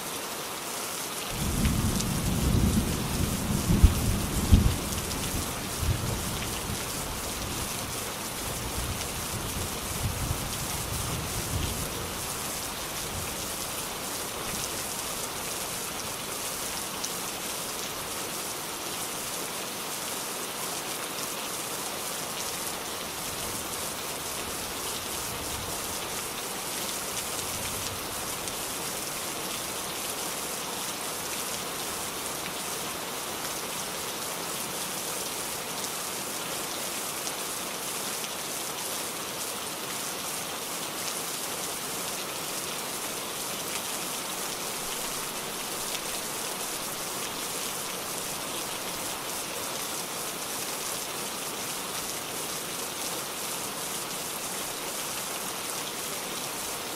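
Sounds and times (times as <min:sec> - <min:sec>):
steady rain pattering: 0:00.0 - 0:56.9.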